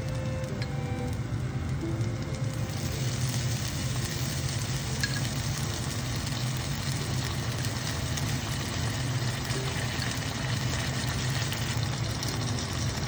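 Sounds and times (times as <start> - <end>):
steady low hum: 0.0 - 13.0
fish sizzling in oil: 0.1 - 13.0.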